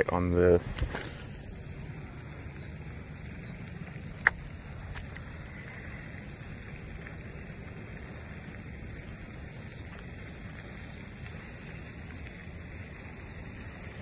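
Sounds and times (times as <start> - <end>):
crickets droning: 0.0 - 14.0
low hiss: 0.0 - 14.0.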